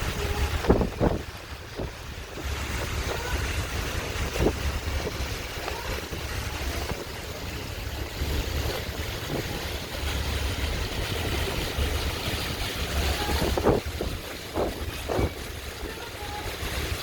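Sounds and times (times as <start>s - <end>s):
ship engine low rumble: 0.0s - 17.0s
water rushing past: 0.0s - 17.0s
wind buffeting microphone: 0.0s - 17.0s.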